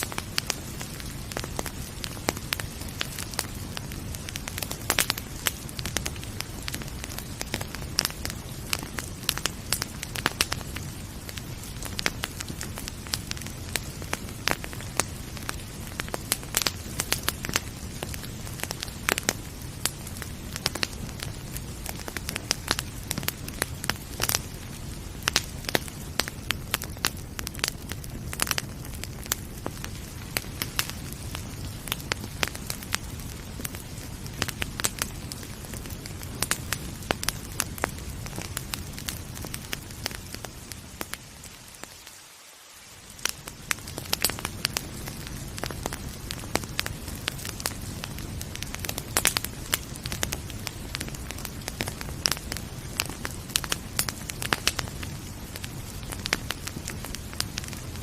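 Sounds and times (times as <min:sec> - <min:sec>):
steady hiss of rain: 0:00.0 - 0:58.0
wood fire crackling and popping: 0:00.0 - 0:58.0.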